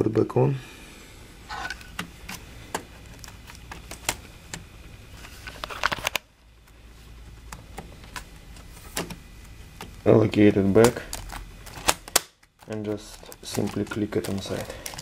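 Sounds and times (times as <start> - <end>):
background noise: 0.0 - 15.0.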